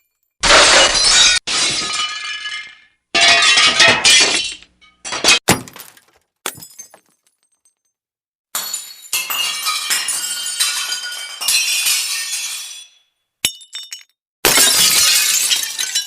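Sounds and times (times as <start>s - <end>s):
glass smashing and shattering: 0.0s - 7.9s, 8.6s - 16.0s.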